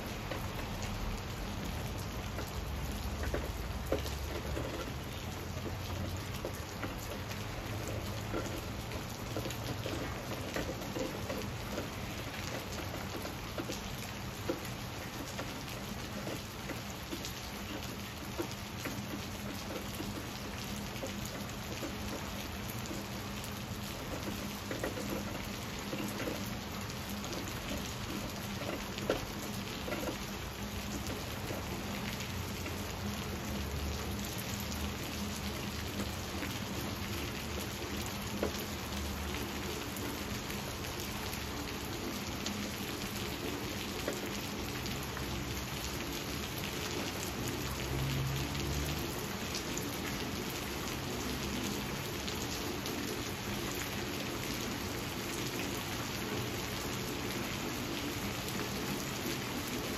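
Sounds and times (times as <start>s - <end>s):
rain falling on leaves: 0.0s - 59.9s
water drips: 0.1s - 55.2s.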